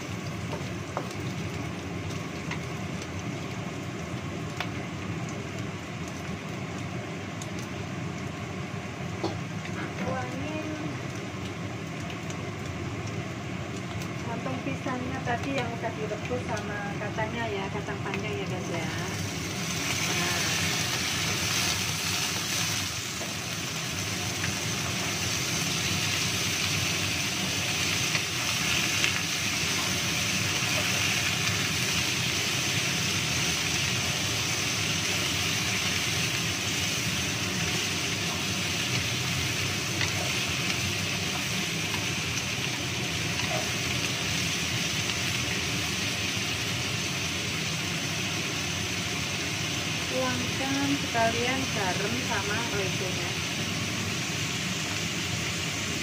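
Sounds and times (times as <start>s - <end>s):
vegetables sizzling in a wok: 0.0s - 56.0s.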